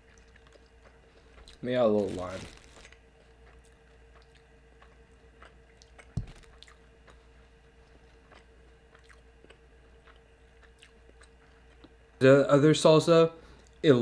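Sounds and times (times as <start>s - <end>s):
person chewing food: 0.0s - 12.2s.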